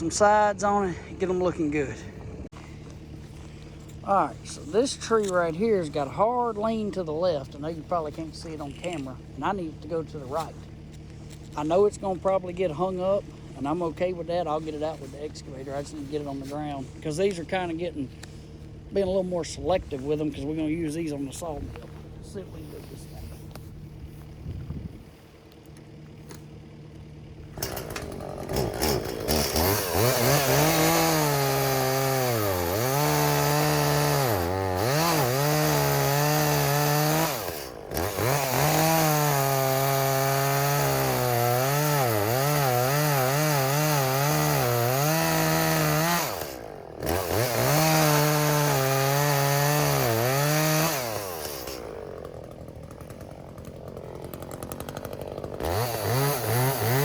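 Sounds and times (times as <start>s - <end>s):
chainsaw cutting a tree: 1.7s - 57.0s.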